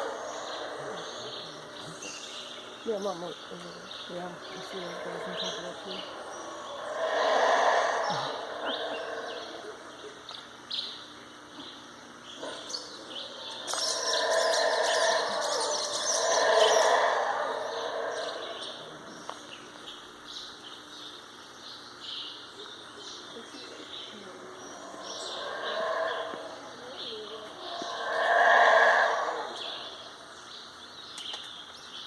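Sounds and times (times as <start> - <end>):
monkeys roaring: 0.0 - 19.8, 22.6 - 30.7
birds chirping: 0.0 - 32.0.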